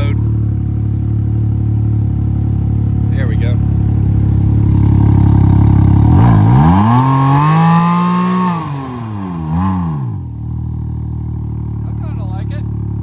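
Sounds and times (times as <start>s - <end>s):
engine revving: 0.0s - 10.5s.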